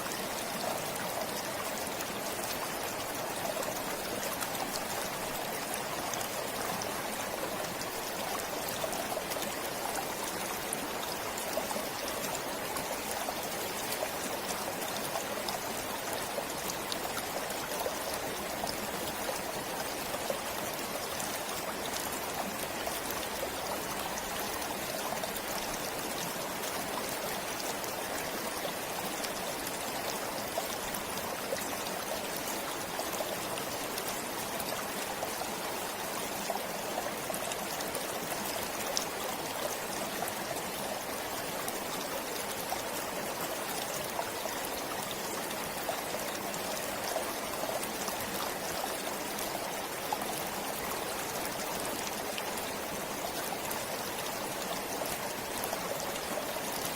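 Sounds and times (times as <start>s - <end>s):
stream flowing: 0.0s - 56.9s.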